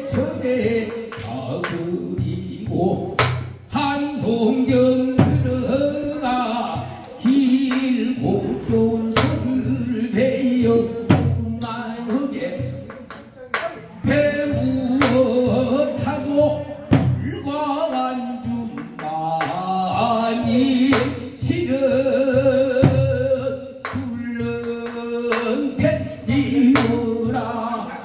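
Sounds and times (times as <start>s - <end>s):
man singing through microphone: 0.0s - 28.0s.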